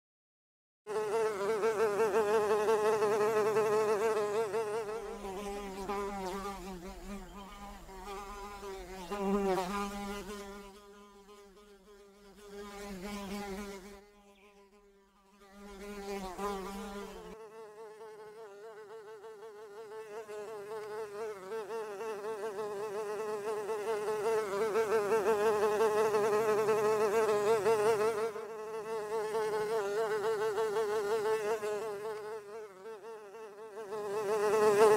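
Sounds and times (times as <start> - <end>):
honey bee wing buzz: 0.9 - 34.9.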